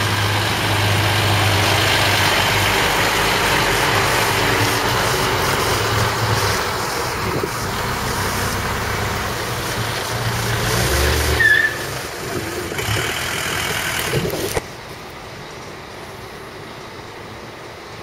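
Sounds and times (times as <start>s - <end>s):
truck diesel engine passing: 0.0s - 14.6s
road traffic noise: 0.0s - 18.0s.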